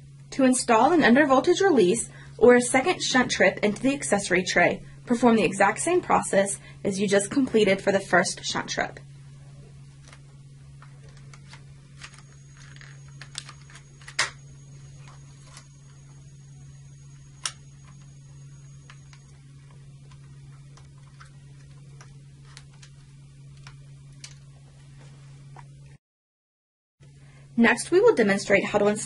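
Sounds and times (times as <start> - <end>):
low hum: 0.0 - 26.0, 27.0 - 29.0.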